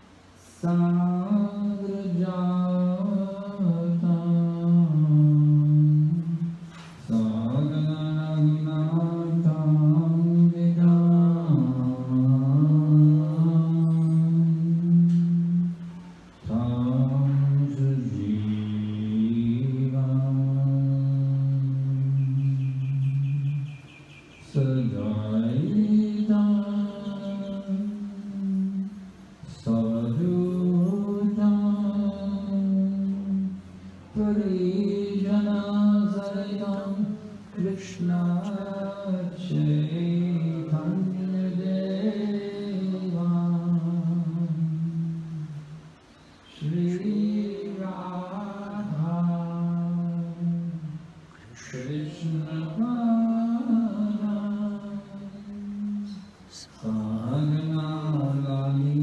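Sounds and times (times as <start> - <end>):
man chanting: 0.4 - 23.7, 24.4 - 45.8, 46.4 - 59.0.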